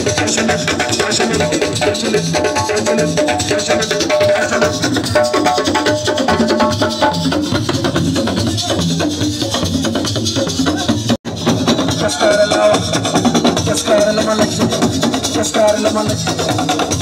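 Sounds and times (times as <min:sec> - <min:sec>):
fast drumming: 0:00.0 - 0:17.0
rattling percussion: 0:00.0 - 0:17.0.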